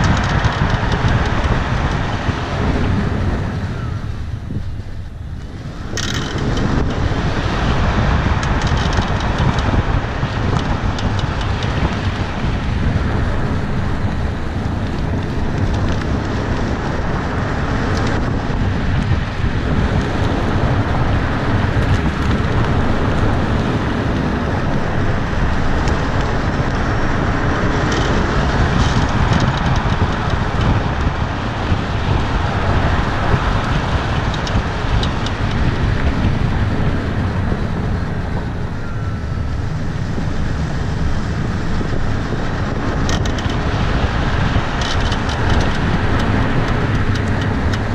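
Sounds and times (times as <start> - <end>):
road and wind noise: 0.0 - 47.9.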